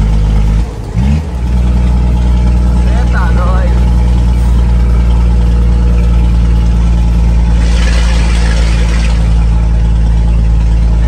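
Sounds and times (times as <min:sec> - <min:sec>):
truck diesel engine humming: 0:00.0 - 0:11.0.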